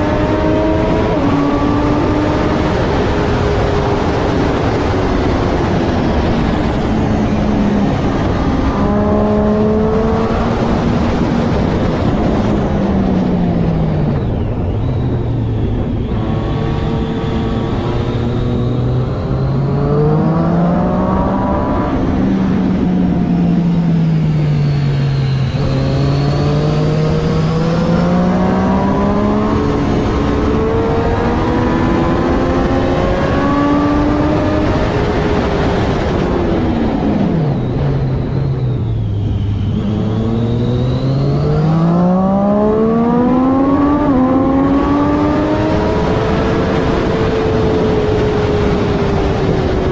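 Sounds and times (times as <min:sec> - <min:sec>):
motorcycle engine at race pace: 0:00.0 - 0:49.9.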